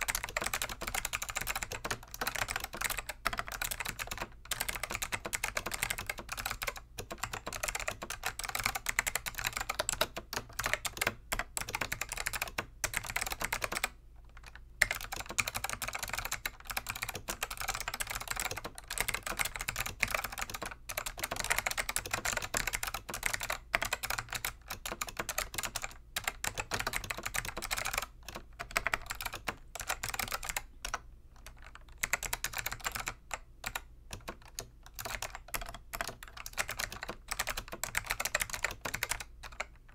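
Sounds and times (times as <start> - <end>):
clicky keyboard typing: 0.0 - 39.9.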